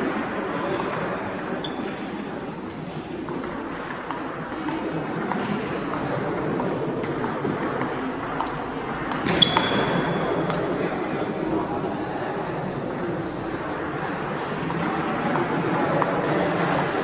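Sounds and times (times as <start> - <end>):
sports hall hubbub: 0.0 - 17.0.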